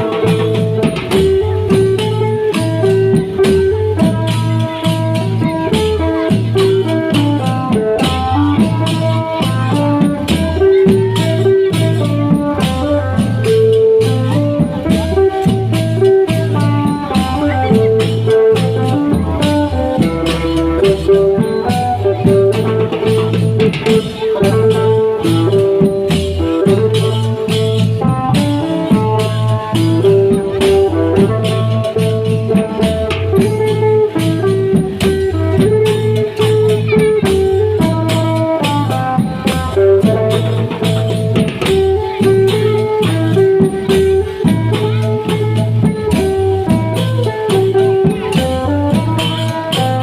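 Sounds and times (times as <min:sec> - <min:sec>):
drum beat: 0:00.0 - 0:50.0.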